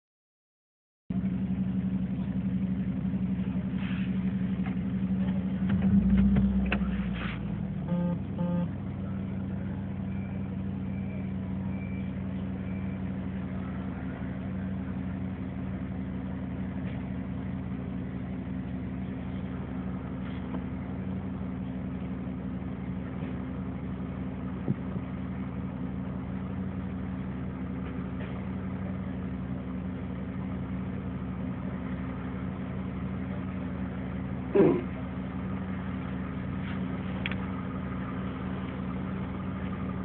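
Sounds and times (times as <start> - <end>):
vehicle engine idling: 1.1 - 40.0.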